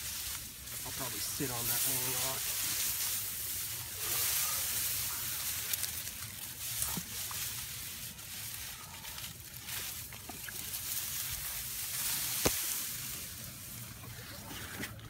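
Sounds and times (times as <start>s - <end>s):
reeds rustling: 0.0s - 15.0s.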